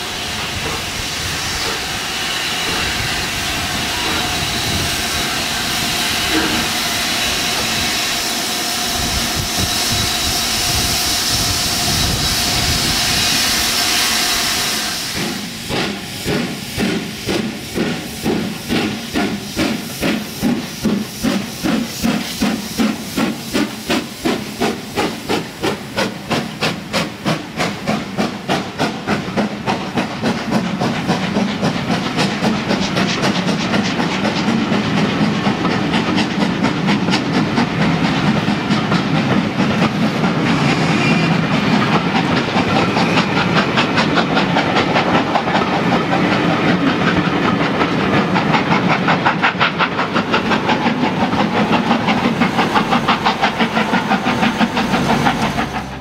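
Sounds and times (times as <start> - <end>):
steam locomotive exhaust chuffs: 0.0 - 56.0
steam locomotive hissing: 0.0 - 56.0.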